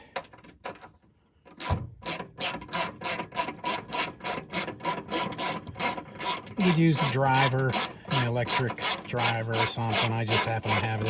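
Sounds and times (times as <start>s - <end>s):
hand ratchet clicking: 1.5s - 11.0s.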